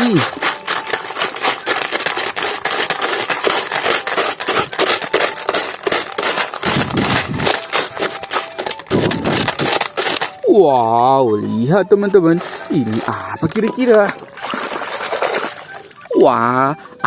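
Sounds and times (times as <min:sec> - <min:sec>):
sand being dug and scraped: 0:00.0 - 0:16.9.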